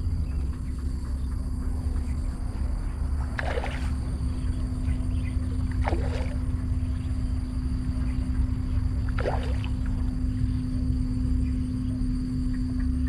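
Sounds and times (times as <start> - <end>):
constant low hum: 0.0 - 13.0.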